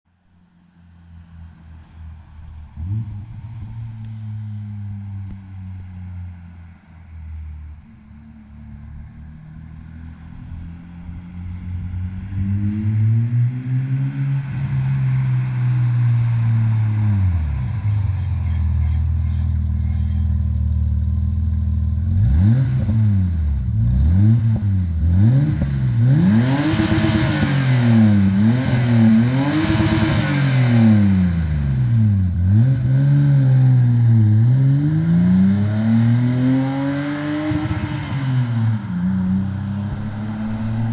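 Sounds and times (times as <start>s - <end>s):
car engine idling and revving: 0.1s - 40.9s.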